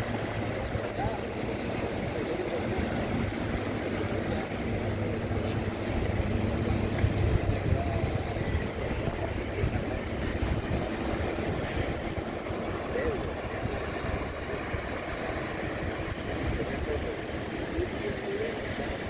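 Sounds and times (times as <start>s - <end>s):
engine rumbling: 0.0s - 19.0s.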